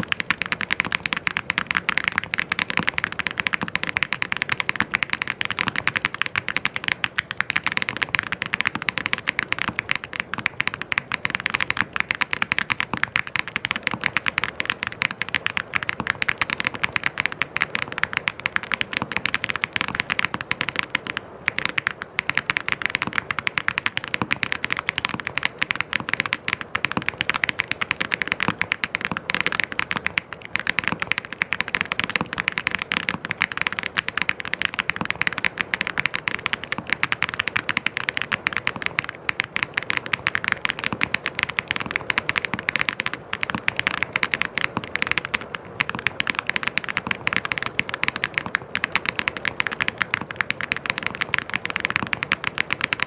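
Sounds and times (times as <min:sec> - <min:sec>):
mechanical keyboard typing: 0:00.0 - 0:53.0.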